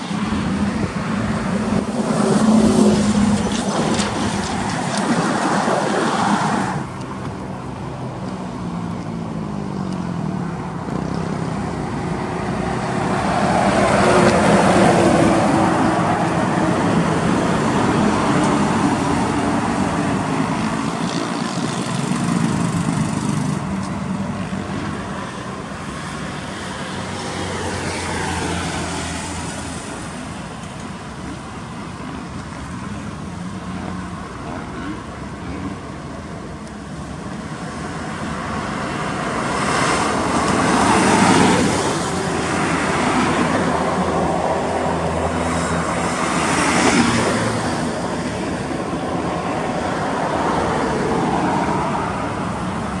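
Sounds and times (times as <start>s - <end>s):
trucks and cars driving past: 0.0s - 53.0s.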